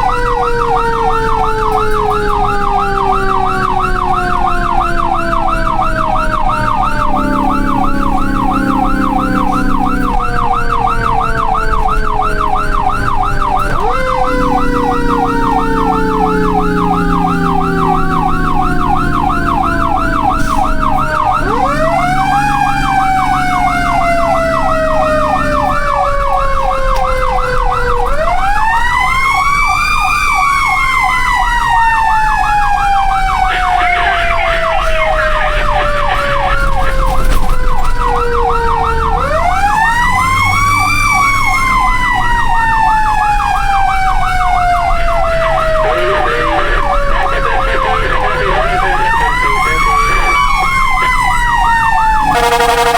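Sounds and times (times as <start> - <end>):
fast yelping siren: 0.0 - 52.9
wailing sirens: 0.0 - 52.9.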